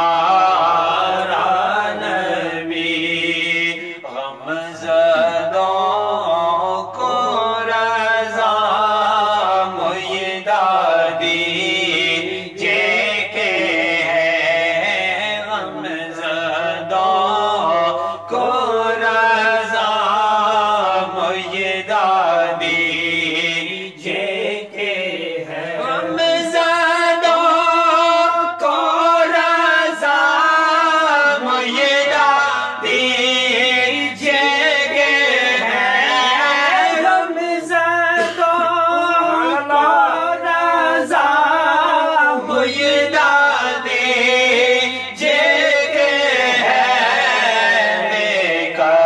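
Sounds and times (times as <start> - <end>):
men singing unaccompanied chant: 0.0 - 49.0.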